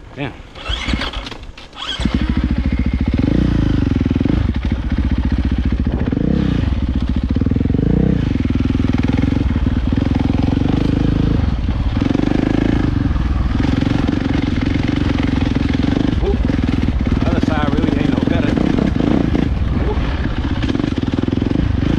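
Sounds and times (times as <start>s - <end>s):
dirt bike engine revving: 0.5s - 21.9s.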